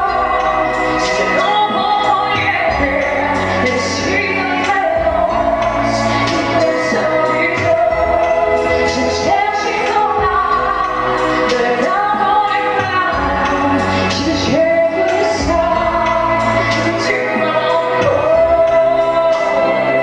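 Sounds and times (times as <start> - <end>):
band accompaniment: 0.0 - 20.0
woman singing pop song: 0.0 - 20.0.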